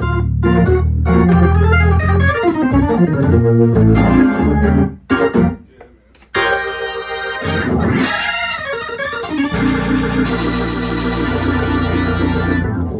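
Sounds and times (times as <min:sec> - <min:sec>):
organ chords through rotating speaker: 0:00.0 - 0:12.9.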